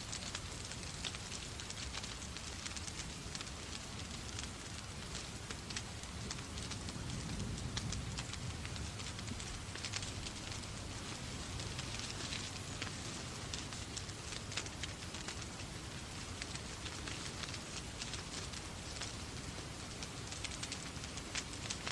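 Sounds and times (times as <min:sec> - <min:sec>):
rain falling: 0:00.0 - 0:21.9
wood fire crackling and popping: 0:00.0 - 0:21.9.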